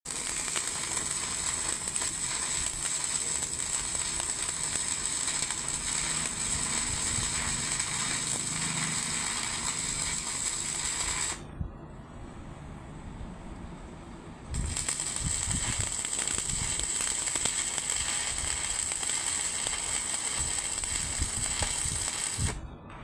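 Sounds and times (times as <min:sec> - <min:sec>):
arc welding crackling sizzle: 0:00.0 - 0:11.4, 0:14.5 - 0:22.6.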